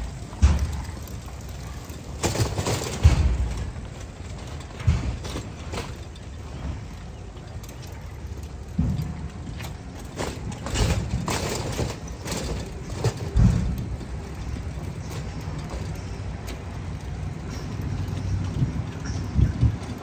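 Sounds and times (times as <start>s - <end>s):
steady low rumble: 0.0s - 20.0s
tricycle cart rattling over concrete: 0.0s - 20.0s.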